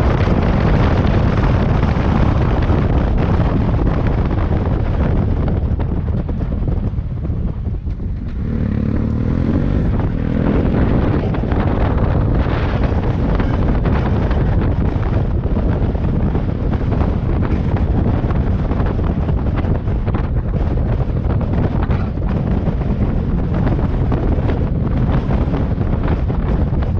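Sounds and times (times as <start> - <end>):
motorcycle engine pulling away: 0.0 - 26.7
wind noise on microphone: 0.0 - 26.9.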